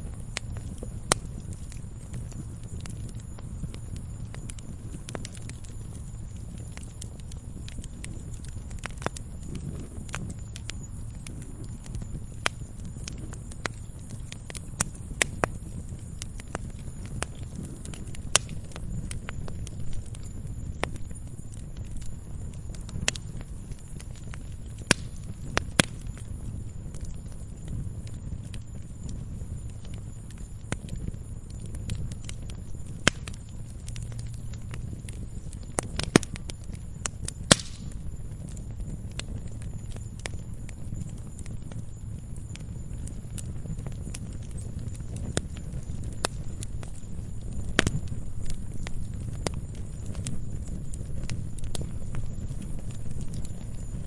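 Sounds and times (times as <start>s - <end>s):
low rumble of flames: 0.0s - 54.0s
sharp pops of fire: 0.0s - 54.0s
wood fire crackling: 0.0s - 54.0s.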